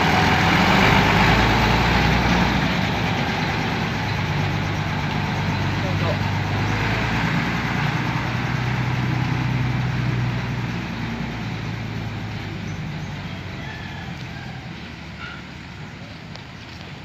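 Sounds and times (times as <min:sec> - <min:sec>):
truck diesel engine driving off: 0:00.0 - 0:17.0.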